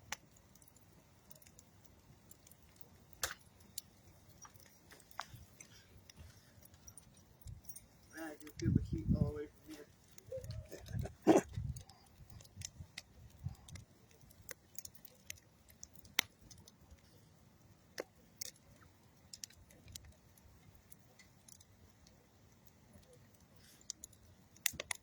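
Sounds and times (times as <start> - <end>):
campfire crackling: 0.0 - 25.0
fire snaps and pops: 0.0 - 25.0.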